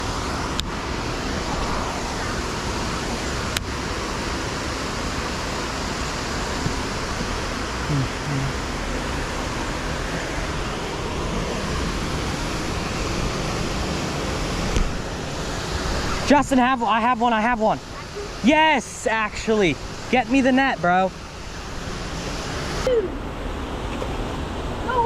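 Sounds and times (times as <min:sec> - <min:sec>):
water rushing over a dam: 0:00.0 - 0:25.0.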